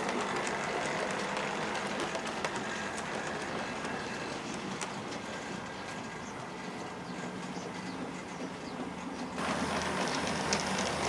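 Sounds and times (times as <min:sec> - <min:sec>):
model train whirring on track: 0:00.0 - 0:11.0
wheels clicking over rails: 0:00.0 - 0:11.0.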